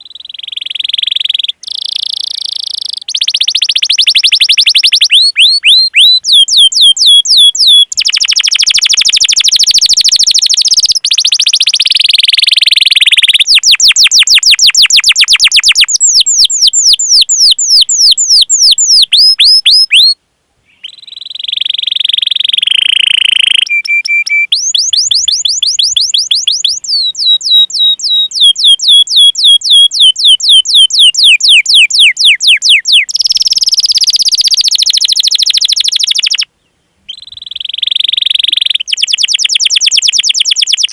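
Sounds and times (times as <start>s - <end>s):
canary singing: 0.0s - 20.2s, 20.8s - 36.5s, 37.1s - 40.9s.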